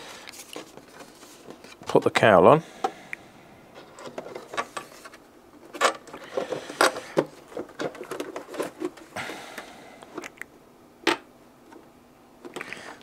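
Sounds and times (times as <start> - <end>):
handling rustles taps and clicks: 0.2 - 2.2, 2.8 - 9.2, 10.0 - 13.0.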